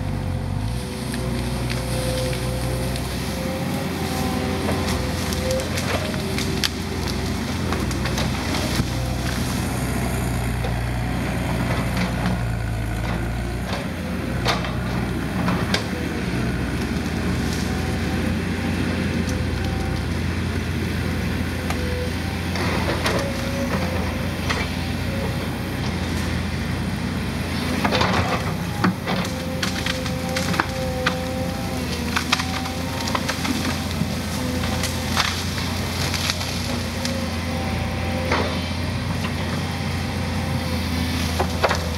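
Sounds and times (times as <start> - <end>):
excavator diesel engine running: 0.0 - 41.9
branches cracking and snapping: 0.6 - 26.5, 27.5 - 41.9.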